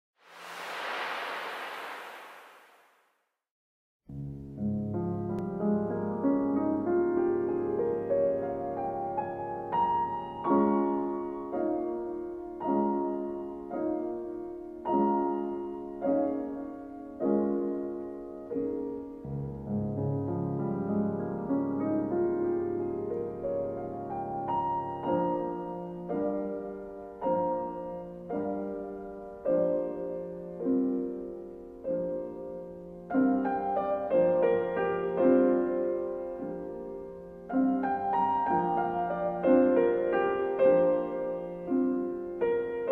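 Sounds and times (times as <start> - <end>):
slow gentle piano music: 4.1 - 42.9.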